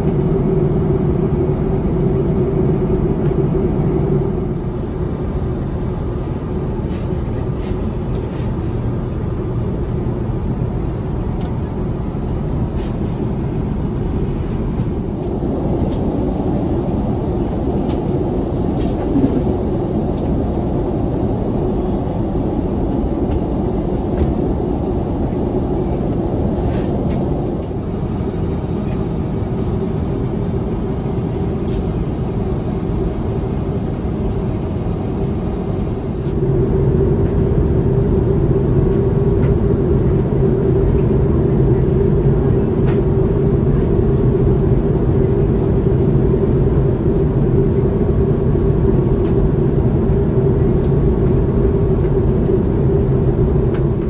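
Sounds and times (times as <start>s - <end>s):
airliner cabin noise: 0.0s - 54.0s.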